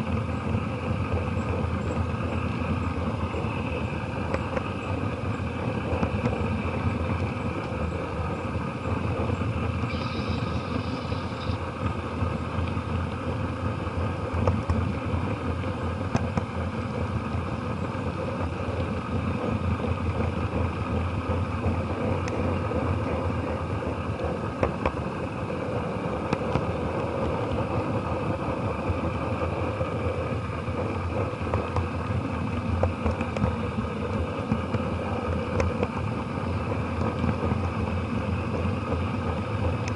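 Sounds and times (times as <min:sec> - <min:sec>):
model train wheels and motor rumble: 0:00.0 - 0:39.9
wheels clicking over rail joints: 0:00.0 - 0:39.9.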